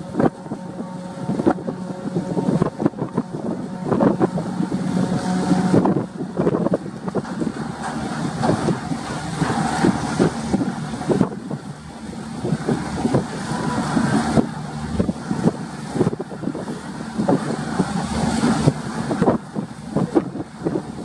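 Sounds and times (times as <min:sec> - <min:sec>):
ship engines droning: 0:00.0 - 0:21.0
wind buffeting microphone: 0:00.0 - 0:21.0.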